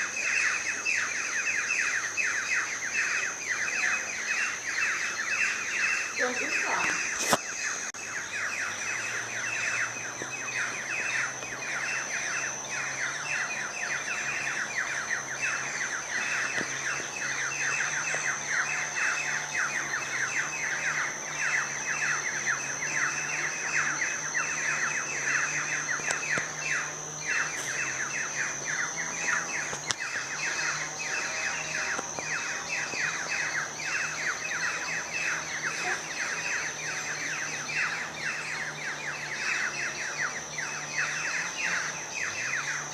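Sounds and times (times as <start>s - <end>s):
small birds chirping: 0.0s - 42.9s
thin high-pitched whine: 0.0s - 42.9s.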